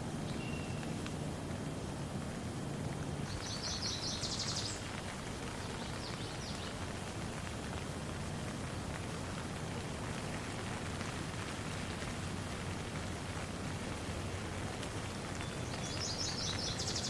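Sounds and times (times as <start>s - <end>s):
rain patter: 0.0s - 17.0s.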